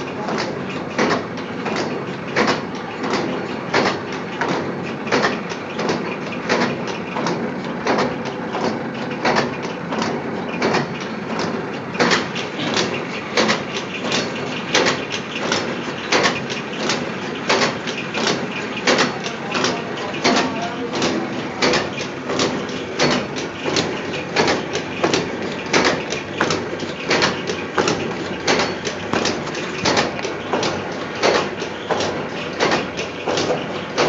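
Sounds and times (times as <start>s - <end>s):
light machine clicks and clatter: 0.0s - 34.0s
machine blade clacking: 0.0s - 34.0s.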